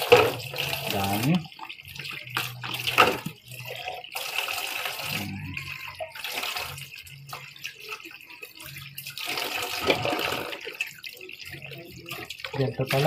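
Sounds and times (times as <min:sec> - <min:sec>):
plastic bottles being rinsed: 0:00.0 - 0:13.0
tap water splashing into metal basin: 0:00.0 - 0:13.0.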